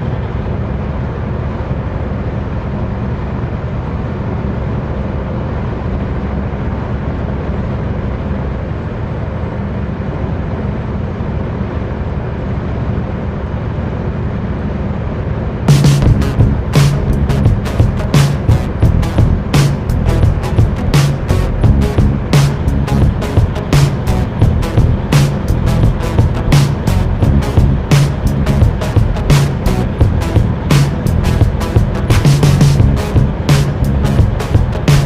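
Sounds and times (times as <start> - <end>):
road noise: 0.0 - 35.0
truck diesel engine drone: 0.0 - 35.0.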